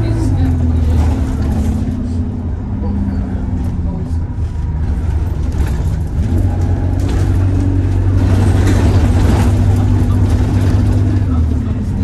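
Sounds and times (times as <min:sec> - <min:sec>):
bus body rattles: 0:00.0 - 0:12.0
bus engine humming: 0:00.0 - 0:12.0.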